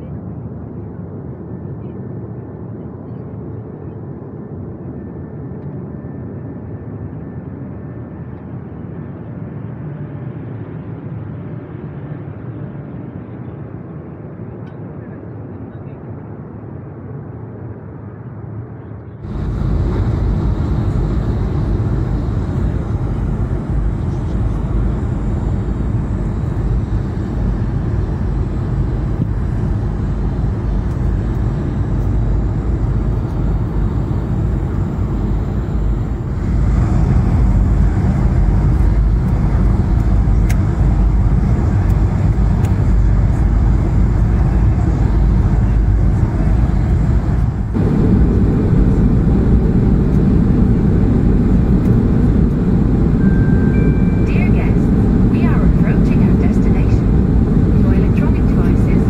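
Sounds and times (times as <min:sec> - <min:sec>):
airliner low rumble: 0:00.0 - 0:59.0.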